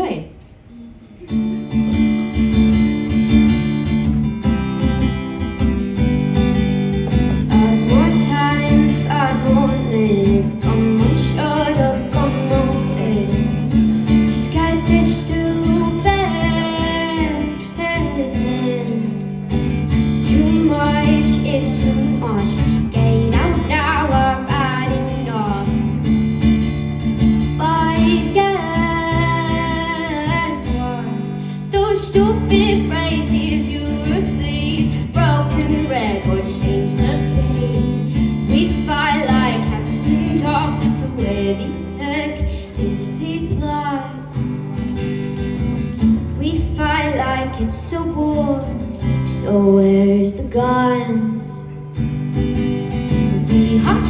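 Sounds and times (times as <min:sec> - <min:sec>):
acoustic guitar strumming: 0:01.2 - 0:54.0
woman singing: 0:07.1 - 0:26.0, 0:27.4 - 0:44.9, 0:46.0 - 0:51.9, 0:53.1 - 0:54.0.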